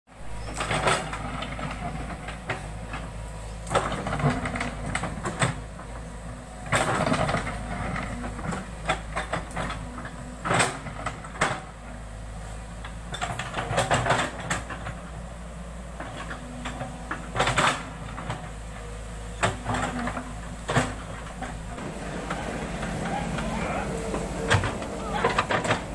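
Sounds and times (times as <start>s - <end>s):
excavator diesel engine running: 0.1s - 25.9s.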